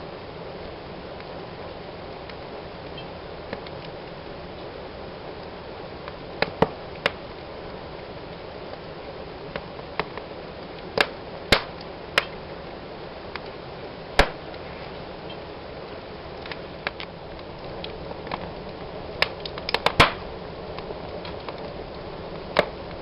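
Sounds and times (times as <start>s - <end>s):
fire hissing: 0.0s - 23.0s
wood crackling and popping: 0.0s - 23.0s.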